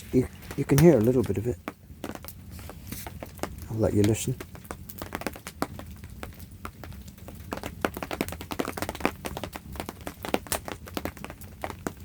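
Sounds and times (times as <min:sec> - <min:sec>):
raindrops tapping: 0:00.0 - 0:12.0.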